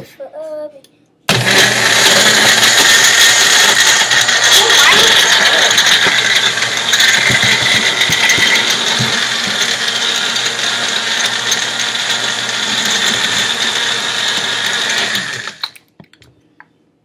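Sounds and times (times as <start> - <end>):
blender running: 1.3 - 15.8.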